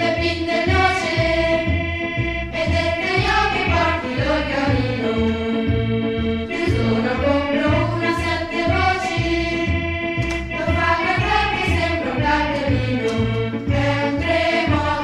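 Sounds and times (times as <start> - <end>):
music with singing voices: 0.0 - 15.0
repeating bass line: 0.0 - 15.0.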